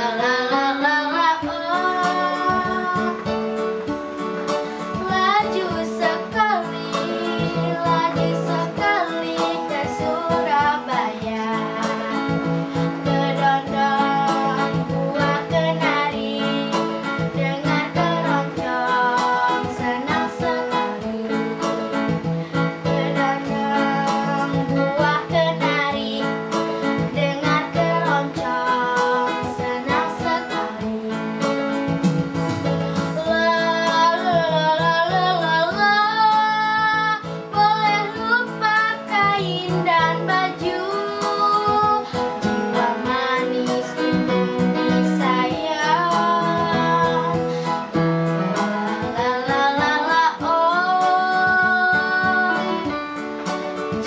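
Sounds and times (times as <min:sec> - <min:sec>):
girl singing with vibrato: 0:00.0 - 0:31.5, 0:32.7 - 0:54.0
electronic keyboard accompaniment: 0:00.0 - 0:54.0.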